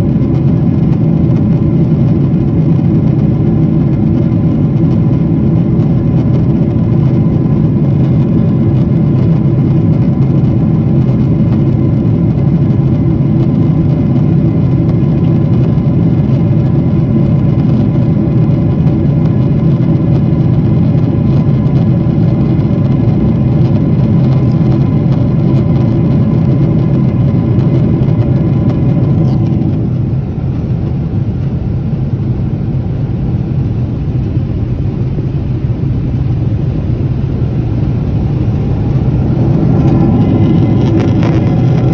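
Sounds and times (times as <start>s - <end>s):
engine drone: 0.0s - 41.9s.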